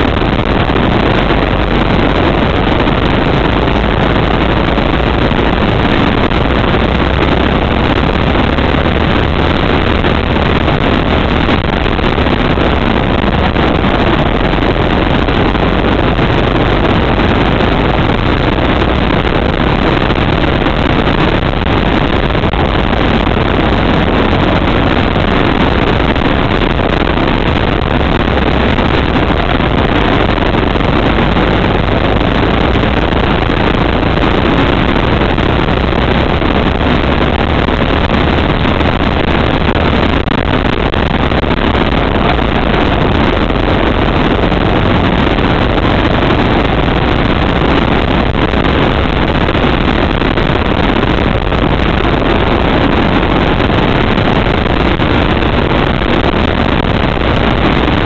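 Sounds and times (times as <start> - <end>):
go-kart engine running: 0.0 - 58.0
wind on microphone: 0.0 - 58.0.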